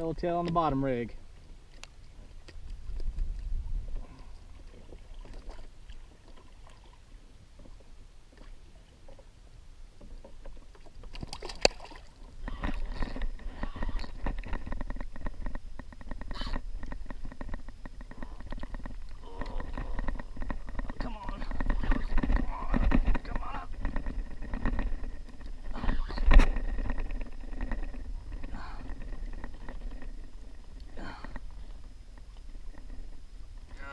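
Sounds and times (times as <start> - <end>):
wind and water rumble: 0.0 - 33.9.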